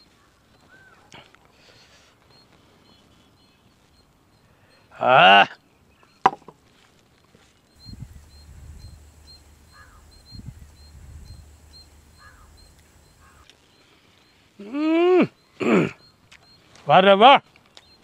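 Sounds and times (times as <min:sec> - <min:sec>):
faint high chirp: 0:00.0 - 0:18.0.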